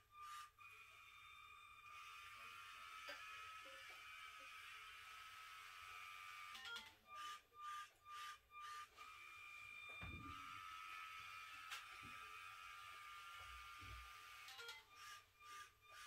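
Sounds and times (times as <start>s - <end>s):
small electric motors whining: 0.1s - 16.0s
motor whirring bursts: 0.2s - 16.0s.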